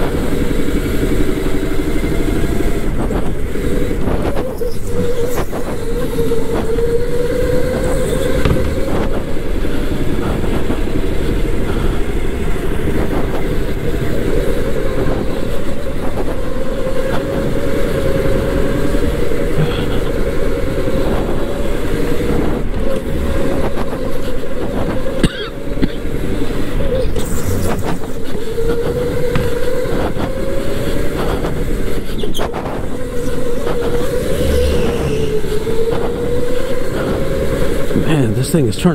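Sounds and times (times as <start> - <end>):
electric motor whining: 0.0 - 38.9
kart rumbling on track: 0.0 - 38.9.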